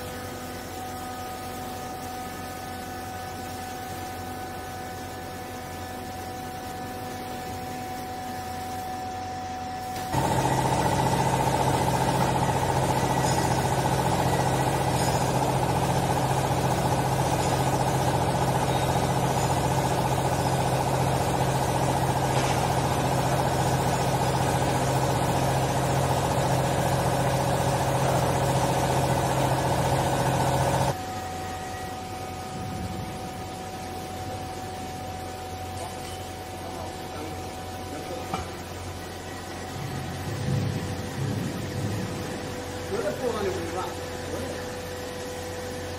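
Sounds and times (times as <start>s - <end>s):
baler motor and pump droning: 0.0s - 45.9s.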